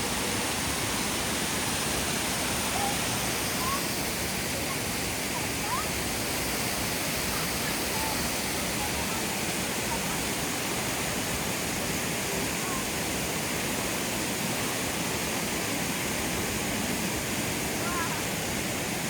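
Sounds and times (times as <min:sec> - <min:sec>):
waterfall pouring: 0:00.0 - 0:19.0.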